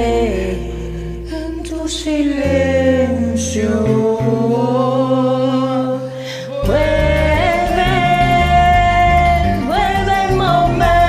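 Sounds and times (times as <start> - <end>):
person singing slow ballad: 0.0 - 11.0.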